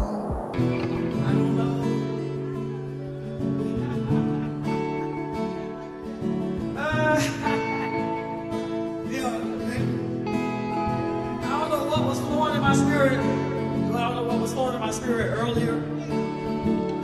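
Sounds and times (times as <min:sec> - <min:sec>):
gospel guitar music: 0:00.5 - 0:17.0.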